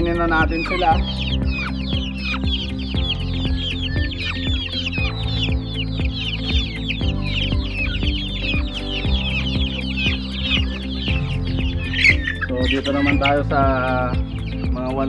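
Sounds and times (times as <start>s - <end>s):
background music with steady beat: 0.0s - 15.0s
chicks peeping: 0.0s - 15.0s.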